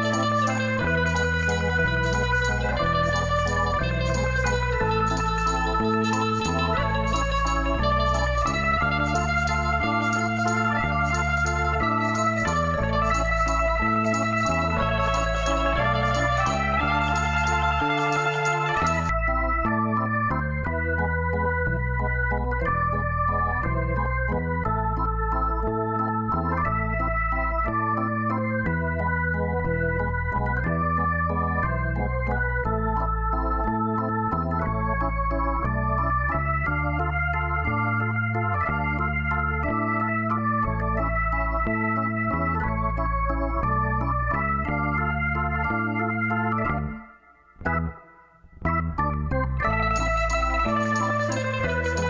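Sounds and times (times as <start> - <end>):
deep bass line: 0.0 - 52.0
electronic organ-like chords: 0.0 - 52.0.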